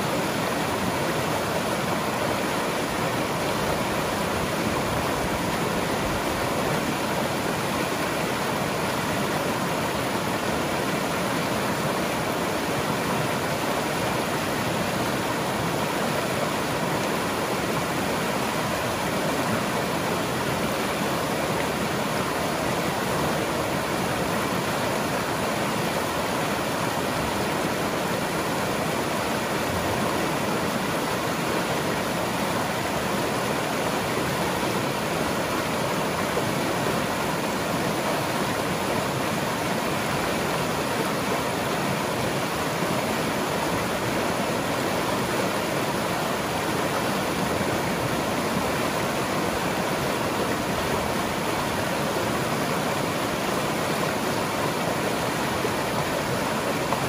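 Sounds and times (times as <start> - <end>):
river rushing over rapids: 0.0 - 57.0.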